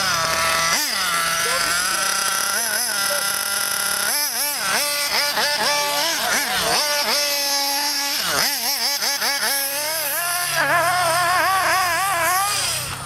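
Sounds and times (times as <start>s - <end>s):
remote control car motor revving: 0.0s - 13.0s.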